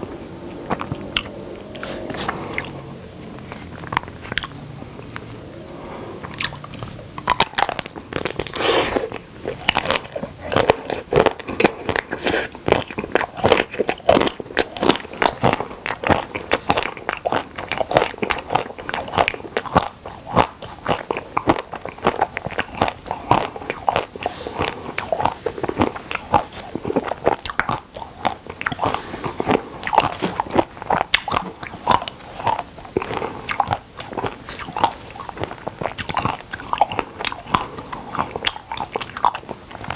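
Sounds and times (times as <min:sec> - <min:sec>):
crunchy chewing of frozen ice cream: 0:00.0 - 0:39.9.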